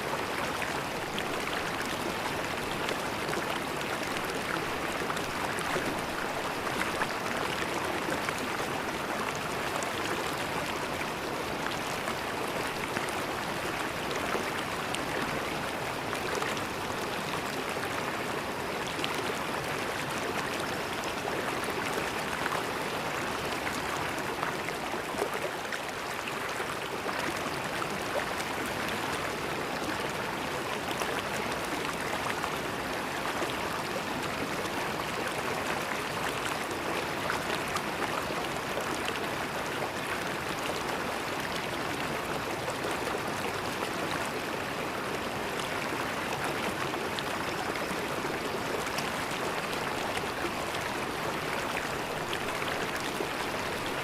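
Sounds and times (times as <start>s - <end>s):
river water gurgling over stones: 0.0s - 54.0s.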